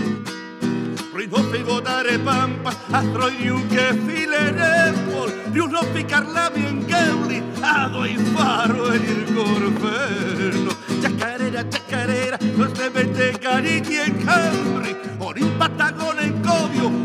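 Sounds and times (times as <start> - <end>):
acoustic guitar strumming: 0.0 - 17.0
person singing: 1.1 - 17.0.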